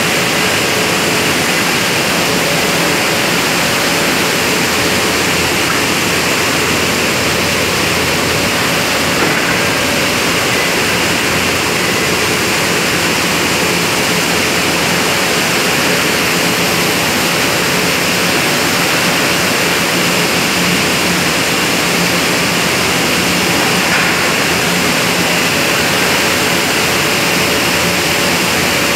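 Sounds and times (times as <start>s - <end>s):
loud rushing noise: 0.0s - 28.9s.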